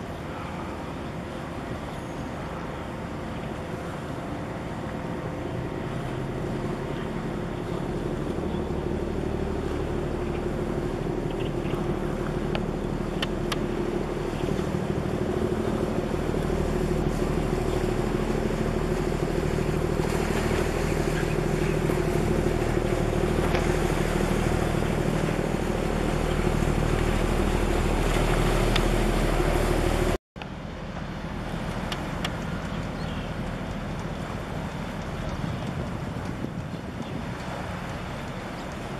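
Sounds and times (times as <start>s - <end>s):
ship engines droning: 0.0s - 38.9s
water noise: 0.0s - 38.9s
wind: 0.0s - 38.9s.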